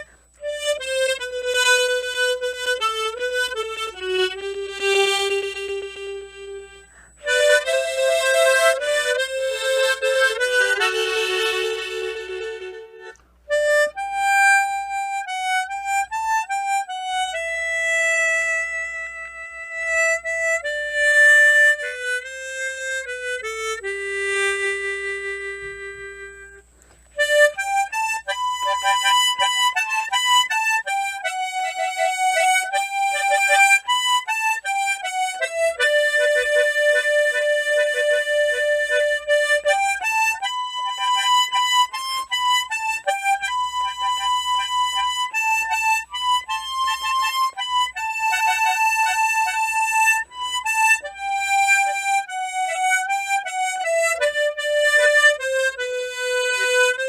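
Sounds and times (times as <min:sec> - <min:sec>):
tremolo harmonica melody: 0:00.0 - 0:57.0.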